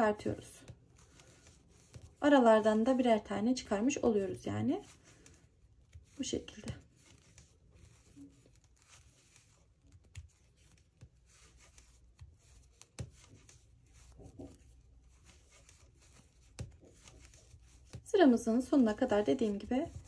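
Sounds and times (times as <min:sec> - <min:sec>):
yarn rustling: 0:00.0 - 0:20.0.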